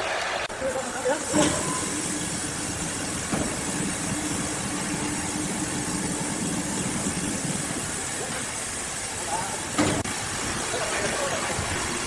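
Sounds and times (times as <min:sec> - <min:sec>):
sawmill machinery humming: 0:01.2 - 0:12.0.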